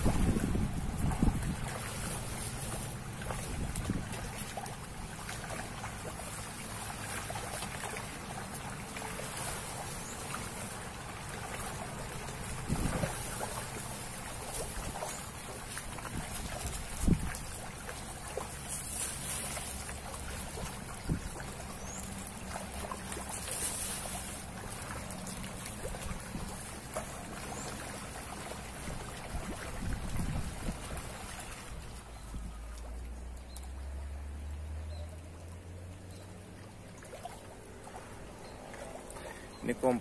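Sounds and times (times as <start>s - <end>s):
fish splashing at surface: 0.0s - 34.8s.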